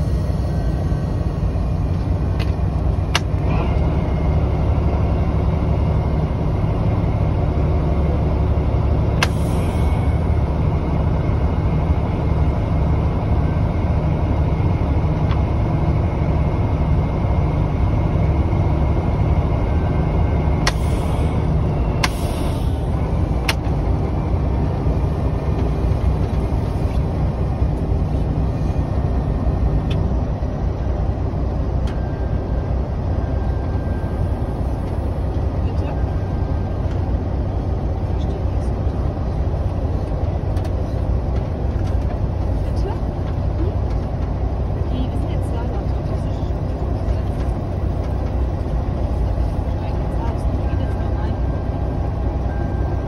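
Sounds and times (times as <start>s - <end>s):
diesel locomotive engine rumbling: 0.0s - 53.0s.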